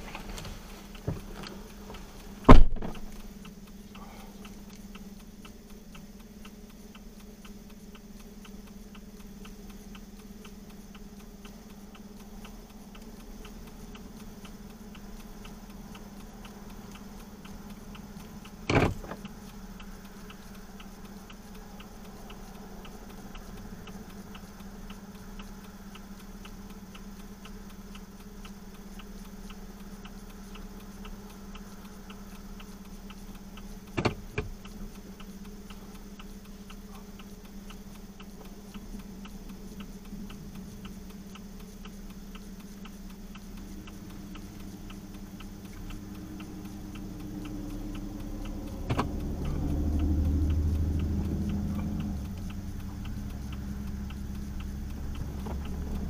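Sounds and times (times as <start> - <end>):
fast ticking: 0.0 - 56.0
steady low hum: 0.0 - 56.0.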